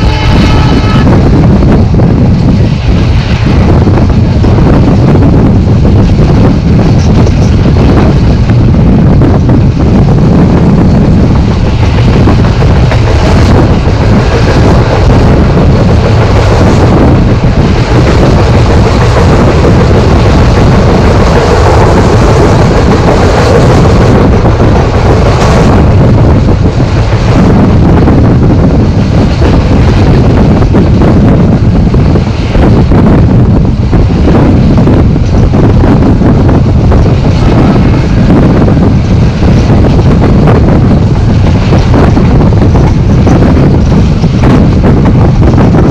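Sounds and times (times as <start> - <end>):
train coaches rumbling on rails: 0.0 - 45.9
wind buffeting microphone: 0.0 - 45.9.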